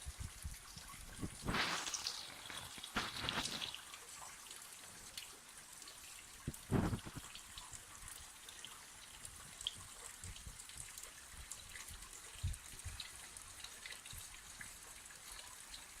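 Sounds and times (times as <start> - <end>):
faint steady hiss: 0.0 - 16.0
raindrops ticking: 1.3 - 16.0.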